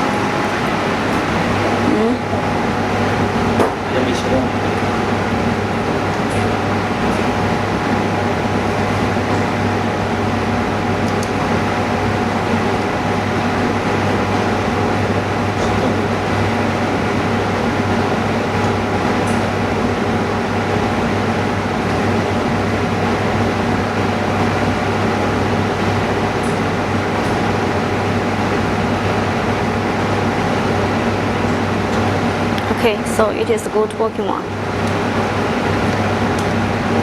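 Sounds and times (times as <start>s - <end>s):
machinery humming and whirring: 0.0s - 37.0s.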